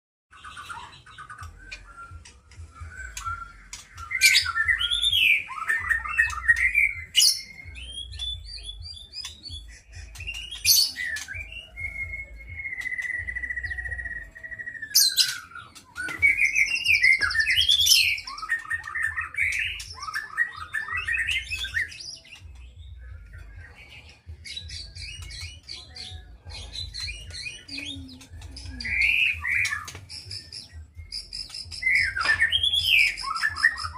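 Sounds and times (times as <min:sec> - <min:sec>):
songbird singing: 0:00.3 - 0:33.9.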